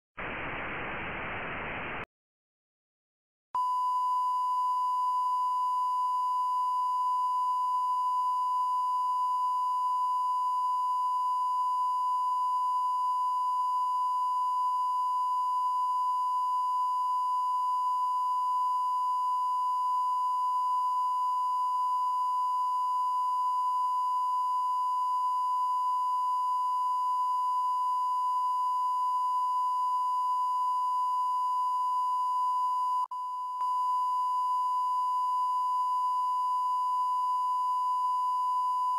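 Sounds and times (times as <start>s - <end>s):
high-pitched test tone beep: 3.6s - 38.9s.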